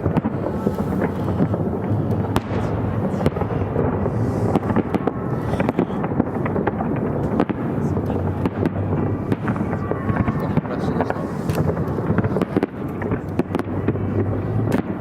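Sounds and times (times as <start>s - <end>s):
continuous fireworks rumble: 0.0s - 15.0s
fireworks bangs and crackles: 0.0s - 15.0s.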